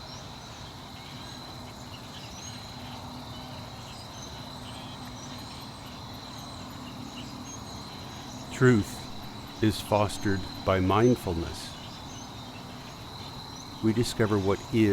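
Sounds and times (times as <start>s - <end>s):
faint bird chirps: 0.0s - 14.9s
high-pitched insect trill: 0.1s - 14.9s.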